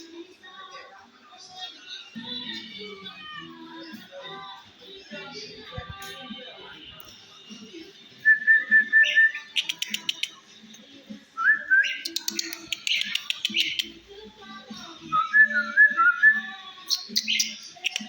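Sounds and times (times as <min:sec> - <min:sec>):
starling singing: 0:00.0 - 0:18.0.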